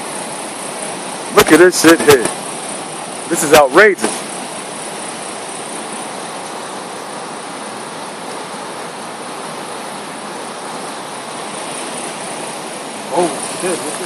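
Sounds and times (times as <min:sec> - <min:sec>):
rushing floodwater: 0:00.0 - 0:14.0.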